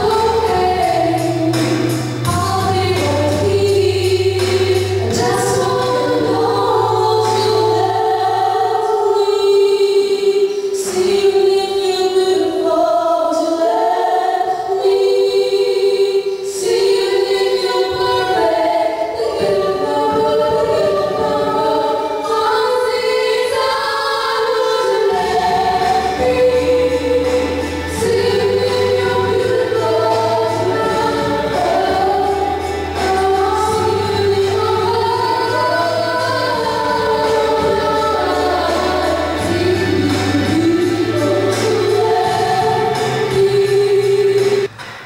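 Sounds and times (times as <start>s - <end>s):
women singing in harmony: 0.0s - 44.7s.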